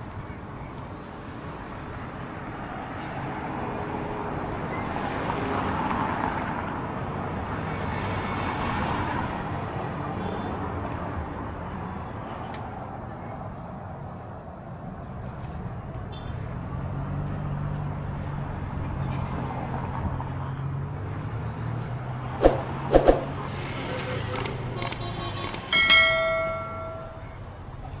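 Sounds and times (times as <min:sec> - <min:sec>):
vehicles passing: 0:00.0 - 0:28.0.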